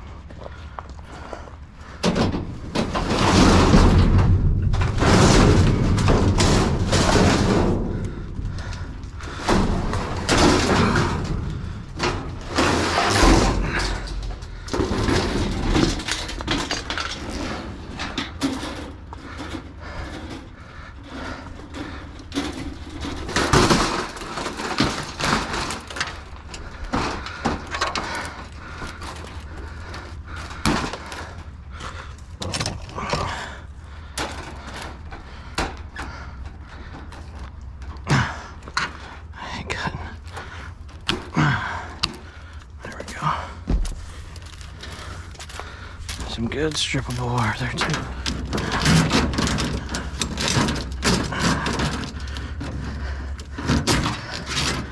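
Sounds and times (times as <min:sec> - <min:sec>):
metal scrap knocking and rattling: 0:02.0 - 0:37.4, 0:43.1 - 0:54.9.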